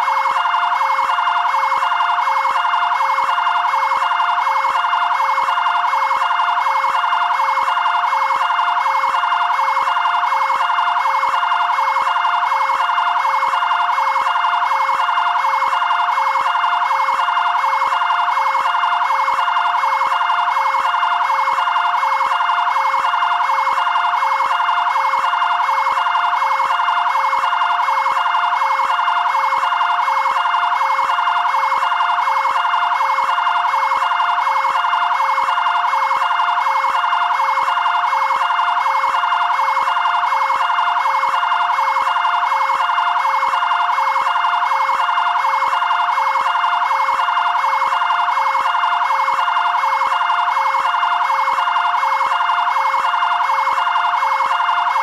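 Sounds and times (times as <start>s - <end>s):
two-tone siren: 0.0s - 55.0s.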